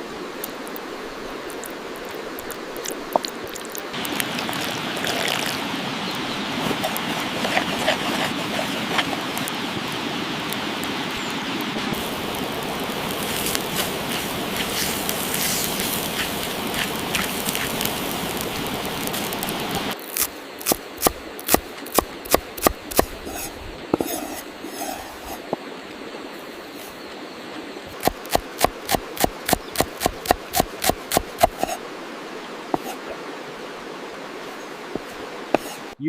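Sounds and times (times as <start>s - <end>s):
cooking fire hissing and crackling: 0.0s - 36.0s.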